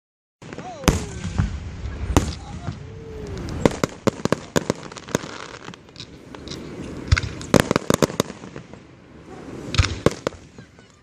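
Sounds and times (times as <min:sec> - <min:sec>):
fireworks bangs and crackling pops: 0:00.4 - 0:11.0.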